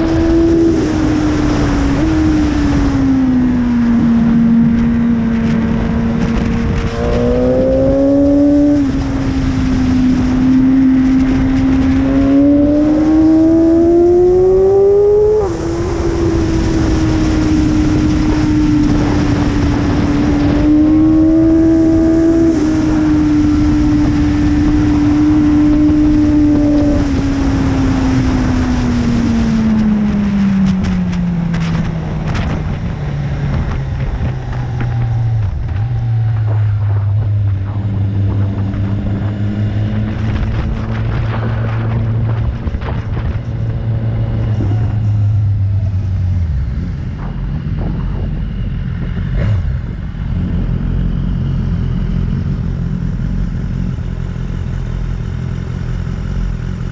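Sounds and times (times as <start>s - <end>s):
wind rush: 0.0s - 56.9s.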